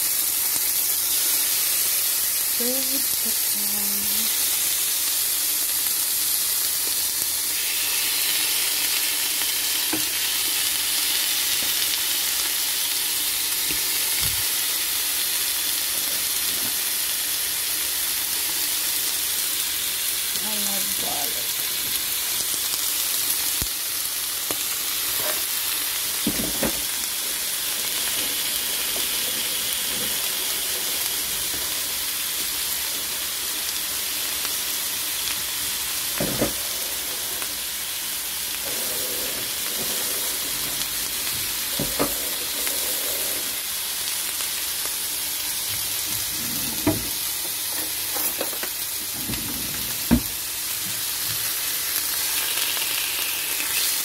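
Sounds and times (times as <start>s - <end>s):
chicken sizzling in a grill pan: 0.0s - 54.0s.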